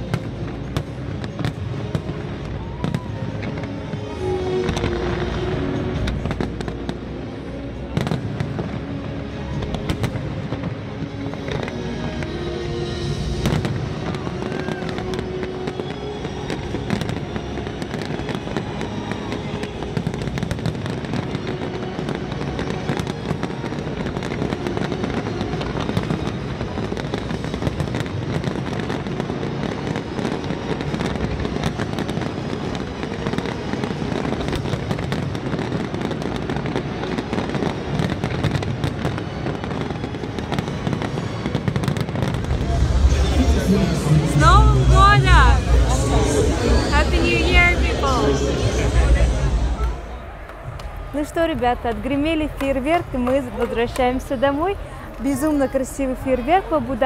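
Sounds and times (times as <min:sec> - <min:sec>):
music playing: 0:00.0 - 0:35.0, 0:35.6 - 0:57.0
fireworks bangs and crackles: 0:00.0 - 0:57.0.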